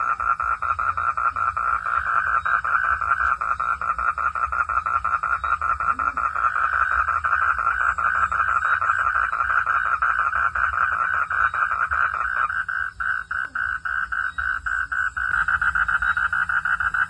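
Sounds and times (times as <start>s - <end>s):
frog calling in rapid pulses: 0.0s - 17.0s.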